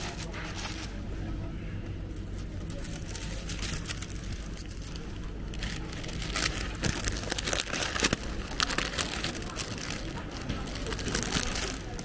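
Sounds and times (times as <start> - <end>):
plastic or paper rustling: 0.0 - 1.2, 2.2 - 12.0
steady low hum: 0.0 - 12.0.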